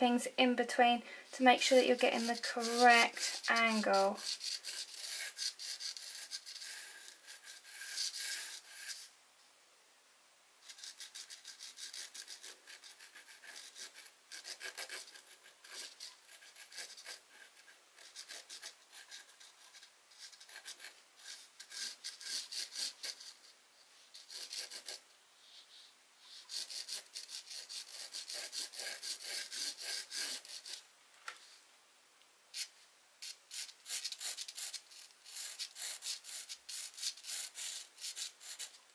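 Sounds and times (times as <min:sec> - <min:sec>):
charcoal pencil scratching on canvas: 0:01.6 - 0:09.1, 0:10.6 - 0:30.8, 0:32.6 - 0:38.8.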